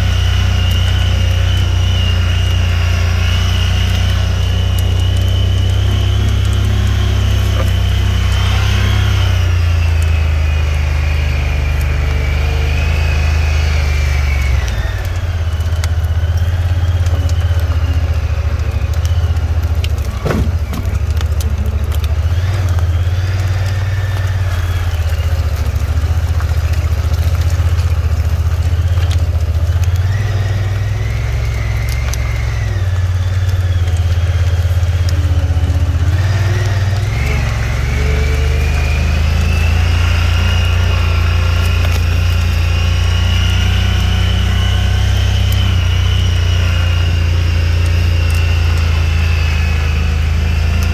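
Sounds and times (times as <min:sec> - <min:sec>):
off-road vehicle engine running: 0:00.0 - 0:50.9.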